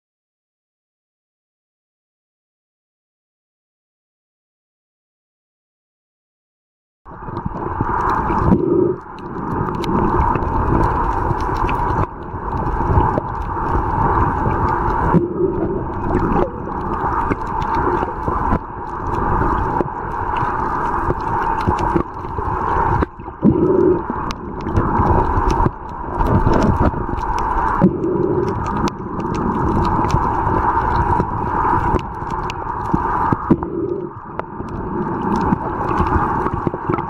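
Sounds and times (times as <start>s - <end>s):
dull rush of water: 7.1s - 37.0s
underwater hum: 7.1s - 37.0s.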